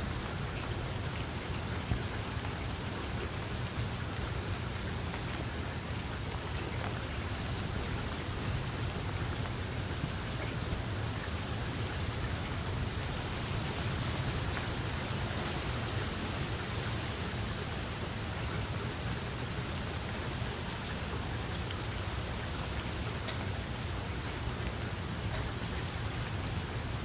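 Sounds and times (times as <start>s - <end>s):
steady rain hiss: 0.0s - 27.0s
raindrop ticks: 0.1s - 27.0s.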